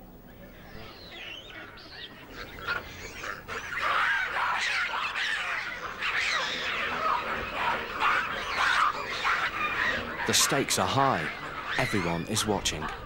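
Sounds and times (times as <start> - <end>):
baboons screaming: 0.5 - 13.0.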